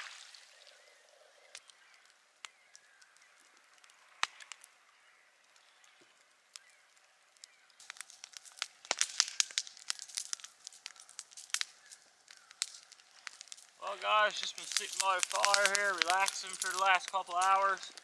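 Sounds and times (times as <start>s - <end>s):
sharp fire pops: 0.0s - 4.7s, 5.5s - 18.0s
campfire crackling: 0.0s - 18.0s.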